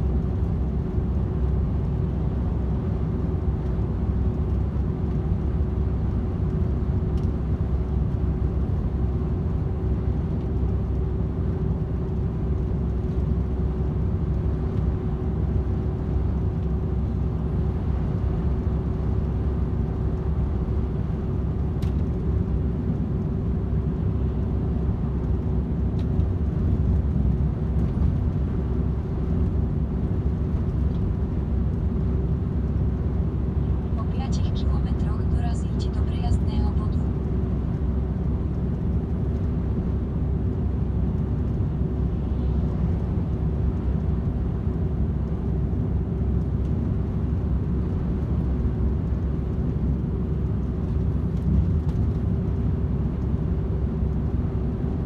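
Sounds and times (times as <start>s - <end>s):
constant hum: 0.0s - 55.0s
truck engine and tyre drone: 0.0s - 55.0s.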